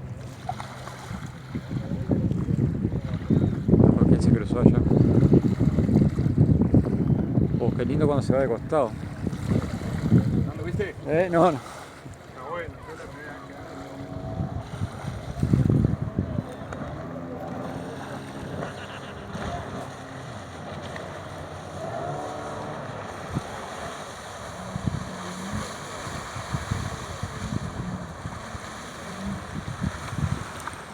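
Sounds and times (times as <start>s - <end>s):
motorboat running: 0.0s - 30.9s
wind buffeting microphone: 0.0s - 30.9s.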